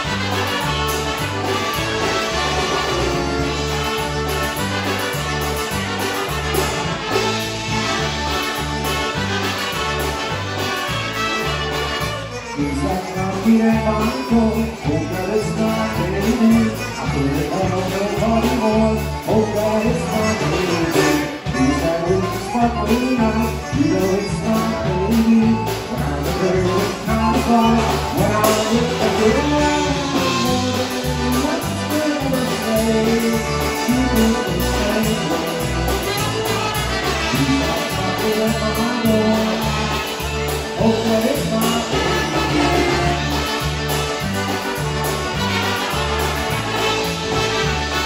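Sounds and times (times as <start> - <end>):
polka band playing: 0.0 - 48.0.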